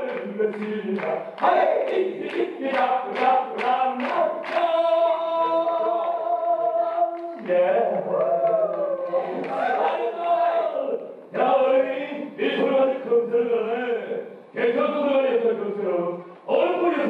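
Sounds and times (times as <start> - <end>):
voices singing together: 0.0 - 14.8.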